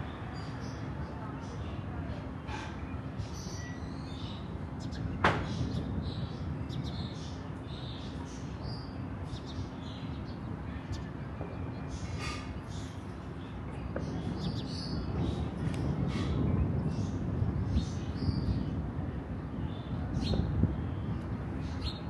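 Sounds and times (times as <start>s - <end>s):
birds chirping: 0.0s - 18.8s, 19.6s - 22.0s
low rumble of outdoor air: 0.0s - 22.0s.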